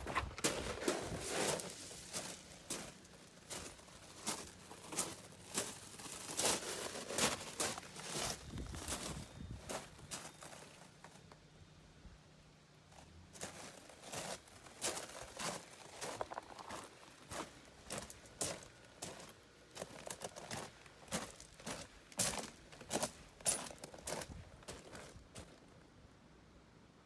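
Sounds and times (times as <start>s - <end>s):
footsteps on gravel: 0.0s - 11.2s, 13.0s - 25.6s.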